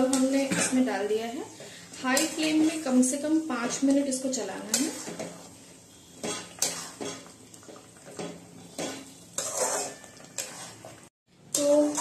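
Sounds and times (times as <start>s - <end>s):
metal spatula scraping a pan: 1.5s - 12.0s.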